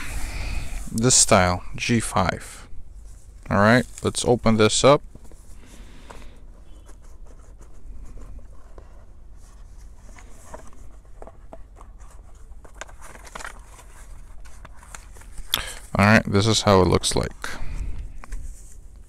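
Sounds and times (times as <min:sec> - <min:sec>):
cardboard and paper rustling: 0:03.0 - 0:19.0.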